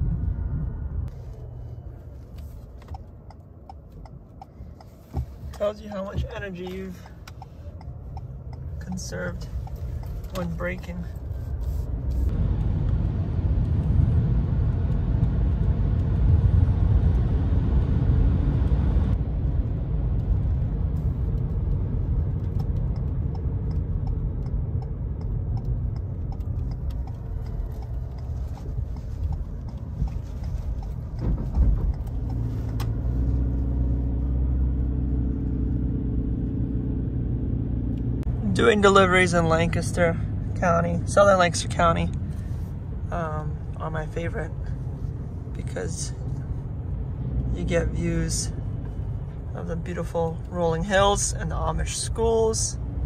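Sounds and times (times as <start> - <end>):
road and tyre noise: 0.0 - 53.0
steady low hum: 0.0 - 53.0.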